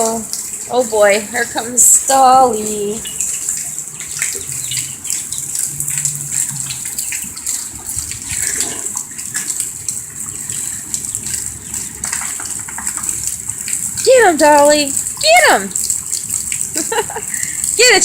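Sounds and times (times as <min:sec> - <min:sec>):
small splashes and crackles: 0:00.0 - 0:18.0
water gushing: 0:00.0 - 0:18.0.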